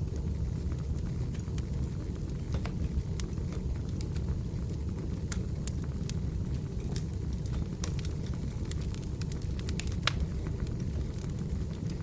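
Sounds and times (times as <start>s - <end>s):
fire crackling and popping: 0.0s - 12.0s
fire low rumble: 0.0s - 12.0s.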